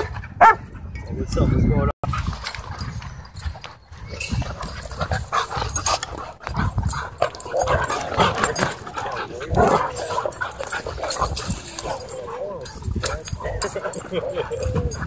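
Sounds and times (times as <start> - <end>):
dogs scuffling on dirt: 2.1 - 15.0.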